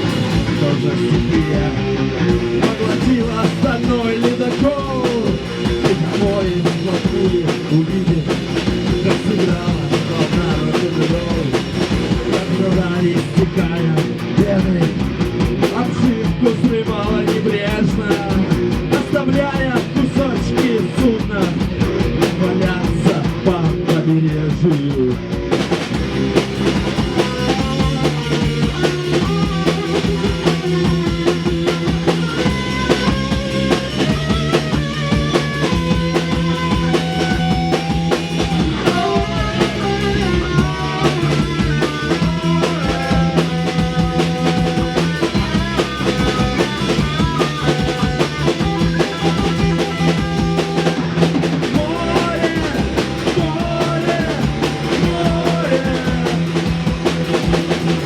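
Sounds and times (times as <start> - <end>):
drum kit beat: 0.0 - 58.0
rock band playing instrumental: 0.0 - 58.0.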